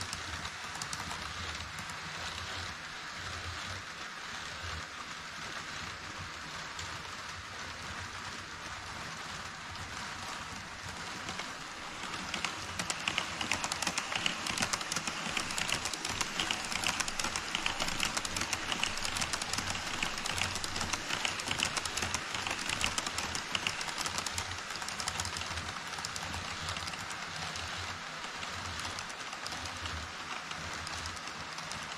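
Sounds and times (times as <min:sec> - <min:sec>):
model train wheels clattering: 0:00.0 - 0:31.9
steady rushing hiss: 0:00.0 - 0:31.9.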